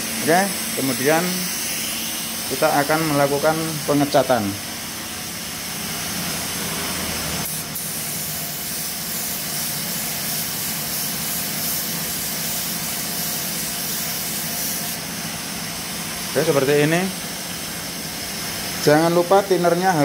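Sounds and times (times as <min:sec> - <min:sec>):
paint spray gun hissing: 0:00.0 - 0:20.0.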